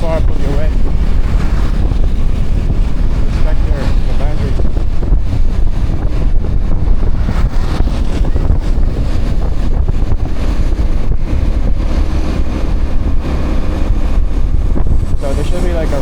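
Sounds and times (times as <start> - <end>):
road and traffic noise: 0.0 - 16.0
wind rumble on microphone: 0.0 - 16.0.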